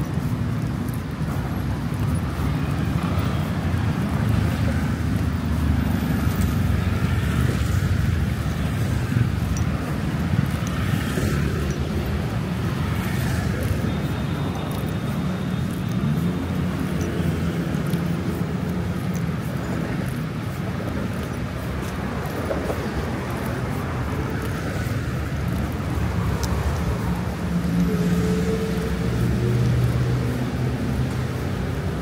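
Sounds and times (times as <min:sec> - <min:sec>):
city road traffic: 0:00.0 - 0:32.0.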